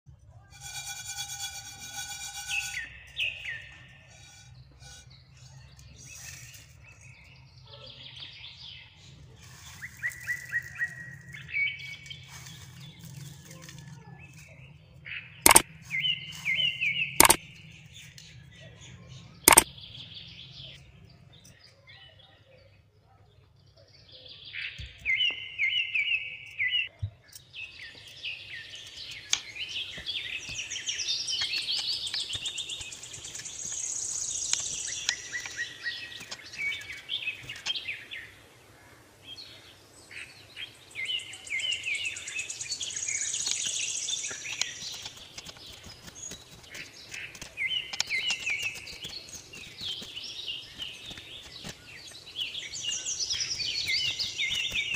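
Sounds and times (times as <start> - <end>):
birds chirping: 0.4 - 54.9.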